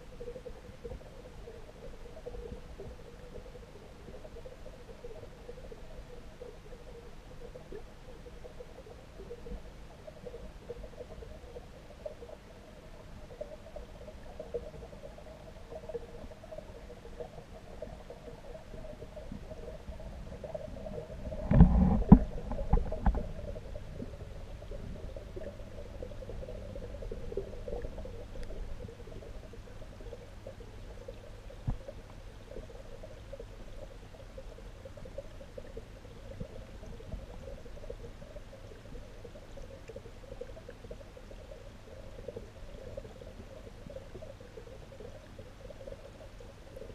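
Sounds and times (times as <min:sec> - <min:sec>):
underwater low hum: 0:00.0 - 0:46.9.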